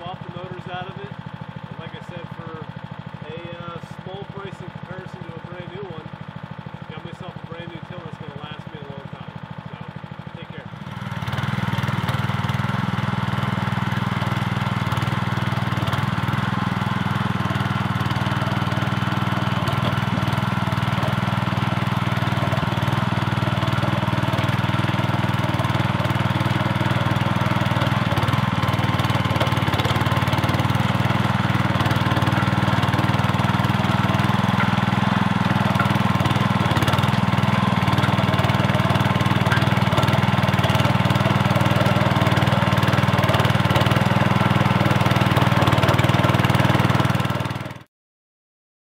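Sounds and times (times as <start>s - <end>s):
rototiller engine under load: 0.0s - 47.9s.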